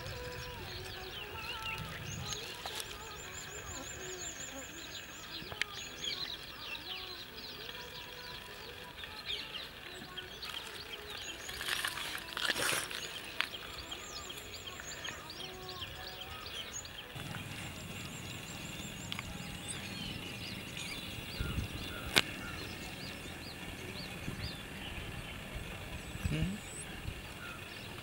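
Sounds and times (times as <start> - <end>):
leaves rustling: 0.0 - 23.4
birds chirping: 0.0 - 28.0
high pulsing bird trill: 0.0 - 28.0.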